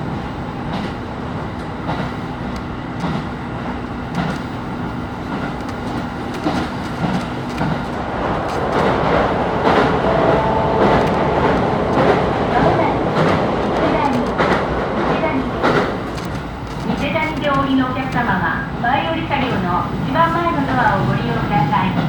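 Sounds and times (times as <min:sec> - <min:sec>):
train rumble: 0:00.0 - 0:22.0
wheels clicking over rail joints: 0:00.7 - 0:18.4.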